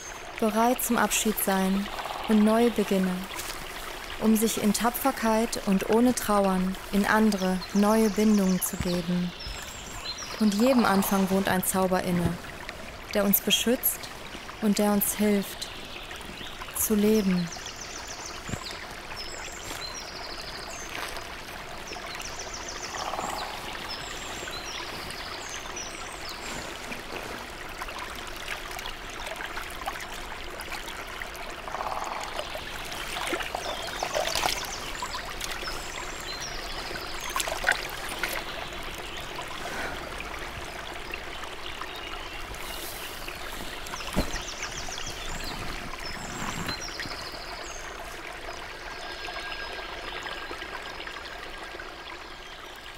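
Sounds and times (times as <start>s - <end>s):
stream trickling over stones: 0.0s - 52.9s.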